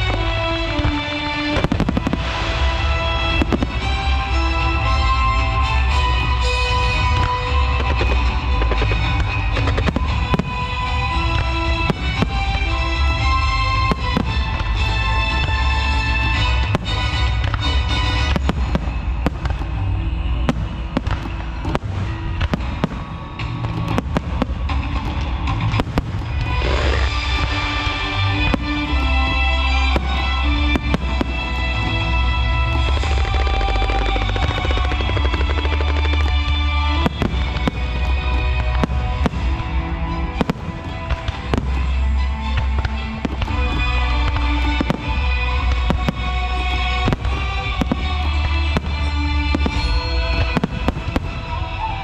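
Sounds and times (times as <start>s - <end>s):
fireworks bangs and crackles: 0.0s - 52.0s
music with heavy bass: 0.0s - 52.0s.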